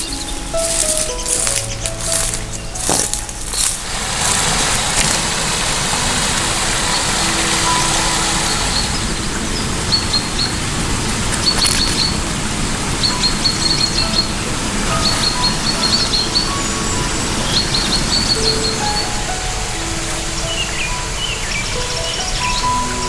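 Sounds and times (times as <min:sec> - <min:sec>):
car driving rushing noise: 0:02.0 - 0:22.2.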